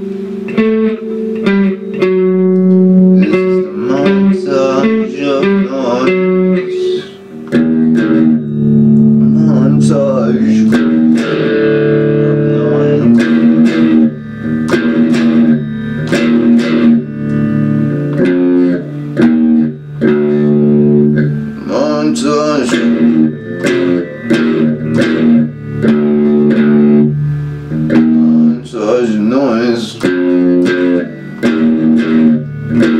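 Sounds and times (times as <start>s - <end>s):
electric guitar rock riff: 0.0s - 32.9s.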